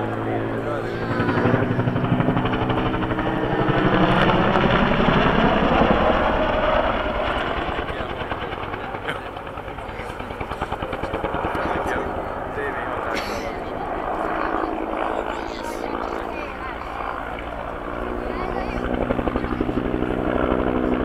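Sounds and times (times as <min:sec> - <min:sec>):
helicopter rotor beating: 0:00.0 - 0:21.0.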